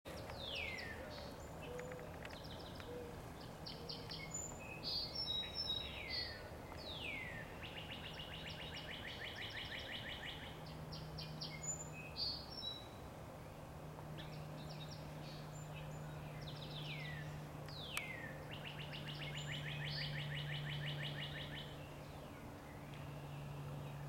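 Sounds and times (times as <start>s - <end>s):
faint low hum: 0.1s - 24.0s
songbirds singing: 0.1s - 24.0s.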